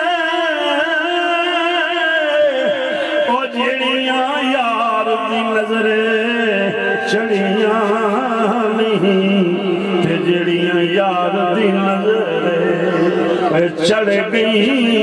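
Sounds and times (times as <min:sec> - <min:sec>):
man singing ornamented melody: 0:00.0 - 0:15.0.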